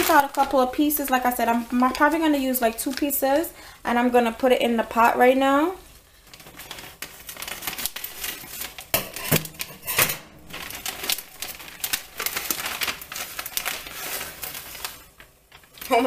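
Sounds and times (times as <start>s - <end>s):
plastic bag crinkling: 0.0s - 3.4s, 4.0s - 16.0s.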